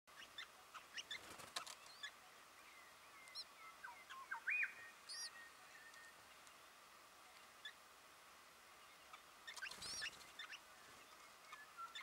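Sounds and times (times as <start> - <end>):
birds chirping: 0.1 - 7.8, 8.4 - 12.0.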